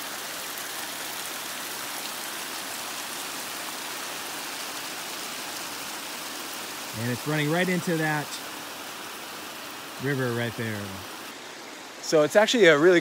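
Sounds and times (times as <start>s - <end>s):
water running down rock: 0.0s - 13.0s.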